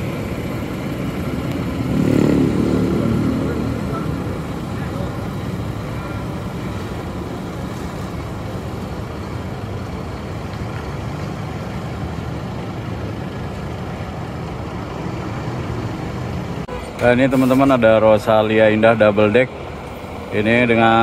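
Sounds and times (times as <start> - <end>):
bus diesel engine rumbling: 0.0 - 21.0.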